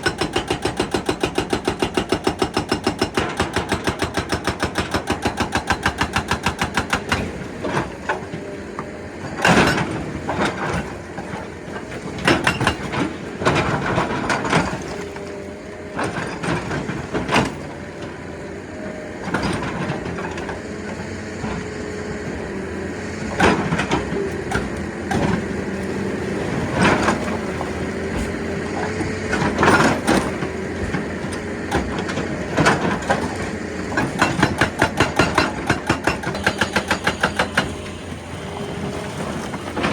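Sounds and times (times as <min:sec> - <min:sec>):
excavator engine and hydraulic drone: 0:00.0 - 0:39.9.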